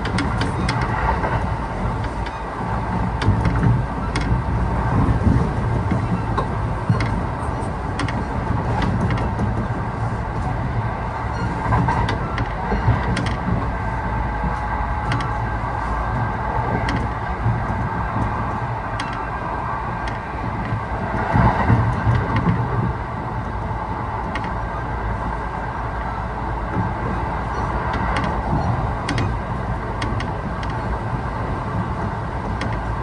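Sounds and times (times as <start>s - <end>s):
train running rumble: 0.0s - 33.0s
wheels clicking over rail joints: 0.0s - 33.0s.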